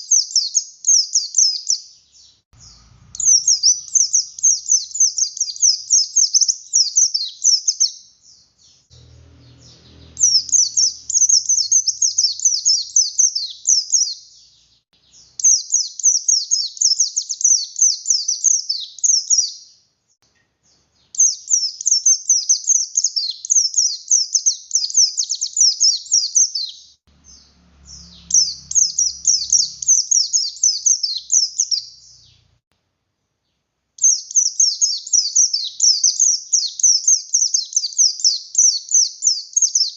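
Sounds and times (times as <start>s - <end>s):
bird twittering: 0.0s - 19.7s, 21.1s - 32.5s, 34.0s - 39.9s.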